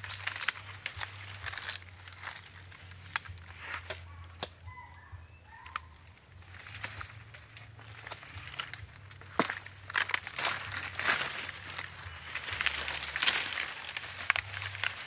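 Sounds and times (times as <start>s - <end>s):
dry palm fronds rustling: 0.0s - 15.0s.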